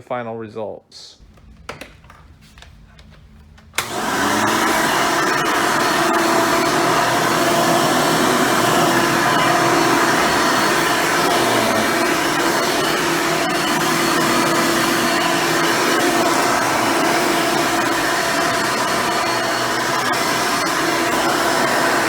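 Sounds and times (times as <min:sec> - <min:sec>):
vacuum cleaner motor whine: 0:03.0 - 0:22.0.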